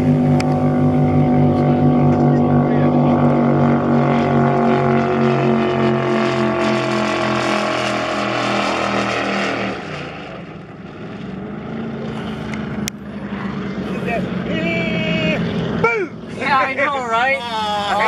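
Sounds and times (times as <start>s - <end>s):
powerboat engines passing: 0.0s - 18.0s.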